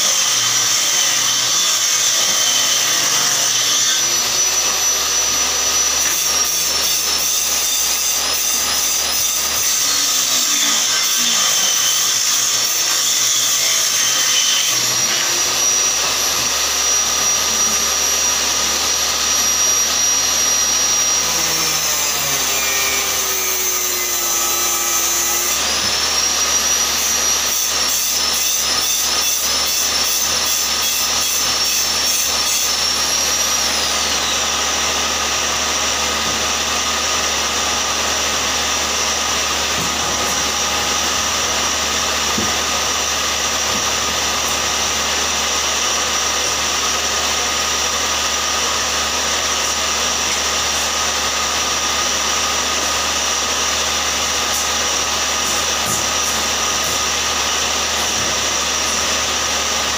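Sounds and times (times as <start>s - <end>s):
power tool whining: 0.0s - 59.9s.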